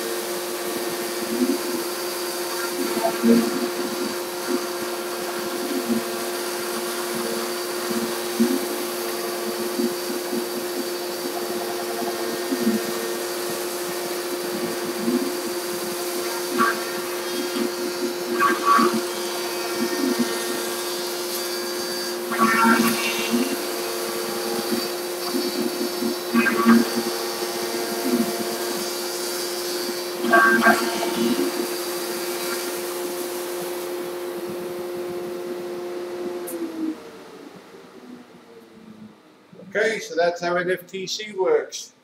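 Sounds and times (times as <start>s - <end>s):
router bit cutting plastic: 0.0s - 33.9s
router spindle motor: 0.0s - 37.0s
dust vacuum running: 0.0s - 37.6s.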